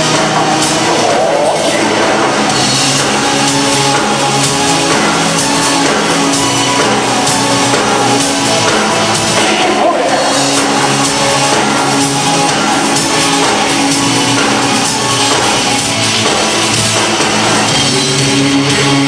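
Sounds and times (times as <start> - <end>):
live rock music: 0.0 - 19.0.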